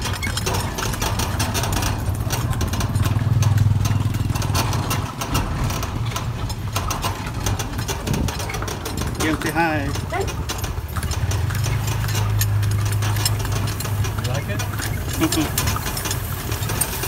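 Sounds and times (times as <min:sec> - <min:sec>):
horse cart clicks and knocks: 0:00.0 - 0:17.0
small motorbike engine running: 0:00.0 - 0:17.0.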